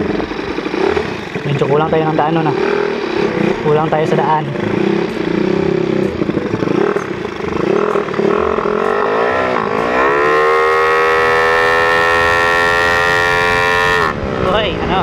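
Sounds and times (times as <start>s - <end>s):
scooter engine accelerating hard: 0.0s - 15.0s.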